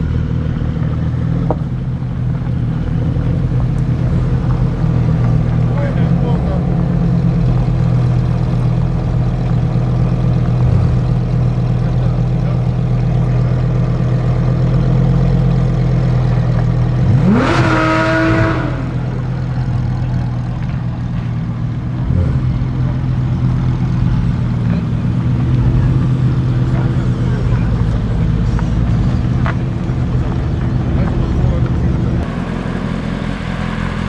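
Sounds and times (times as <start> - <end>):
low engine drone: 0.0 - 21.2, 21.8 - 34.0
sports car passing by: 0.3 - 34.0.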